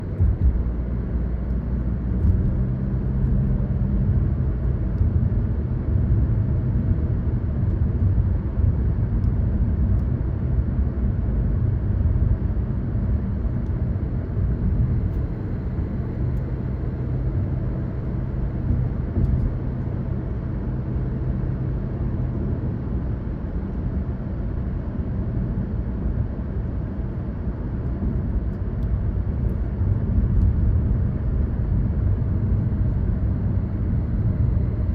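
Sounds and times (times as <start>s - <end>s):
car engine hum: 0.0s - 34.9s
tyre road rumble: 0.0s - 34.9s.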